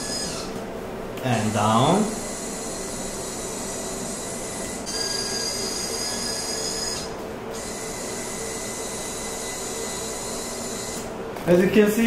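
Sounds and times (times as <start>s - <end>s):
electric motor whining: 0.0s - 0.7s, 1.4s - 11.1s.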